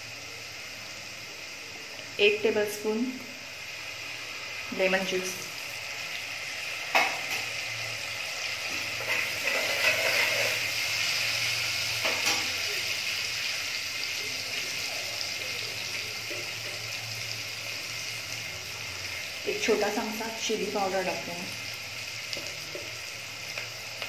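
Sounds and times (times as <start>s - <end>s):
oil sizzling in a pot: 0.0s - 24.0s.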